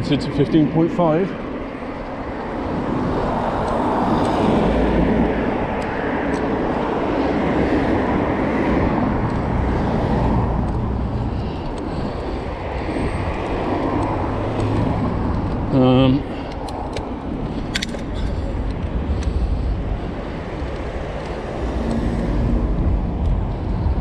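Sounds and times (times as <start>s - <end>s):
road noise: 0.0s - 24.0s
wind rushing on microphone: 0.0s - 24.0s.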